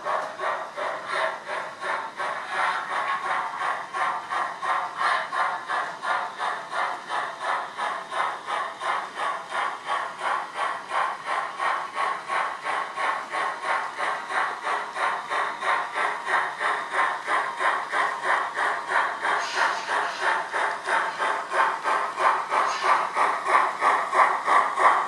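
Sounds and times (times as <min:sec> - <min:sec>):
steam locomotive exhaust chuffs: 0:00.0 - 0:25.0.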